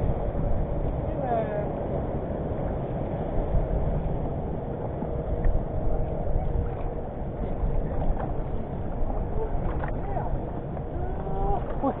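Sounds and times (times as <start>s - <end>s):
sea noise: 0.0s - 12.0s
wind: 0.0s - 12.0s.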